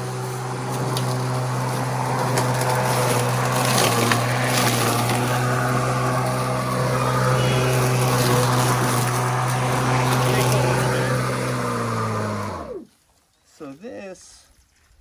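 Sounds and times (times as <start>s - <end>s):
electric lawn mower humming: 0.0s - 12.9s.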